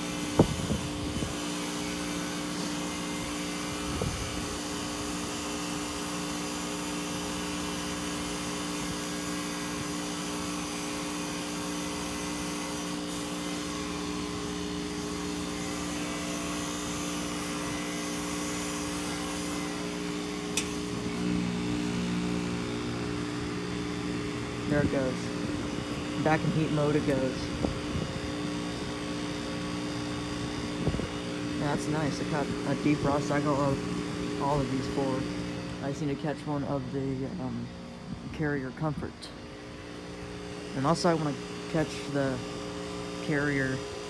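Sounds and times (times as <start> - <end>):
heat pump humming: 0.0 - 44.0.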